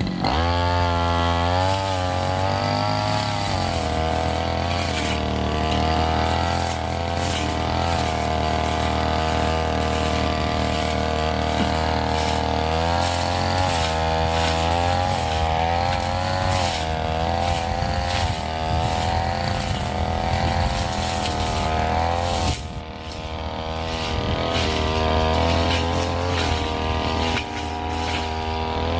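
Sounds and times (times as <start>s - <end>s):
brush cutter engine cutting scrub: 0.0s - 28.9s.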